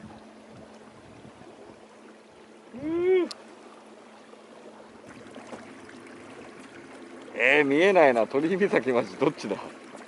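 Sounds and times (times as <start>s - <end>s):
faint steady hum: 0.0s - 10.0s
water lapping at boat hull: 0.0s - 10.0s.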